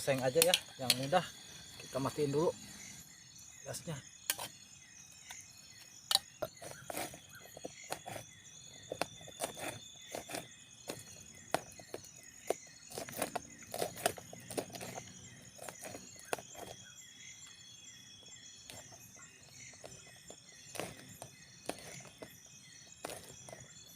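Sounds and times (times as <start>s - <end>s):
insects chirping: 0.0s - 23.9s.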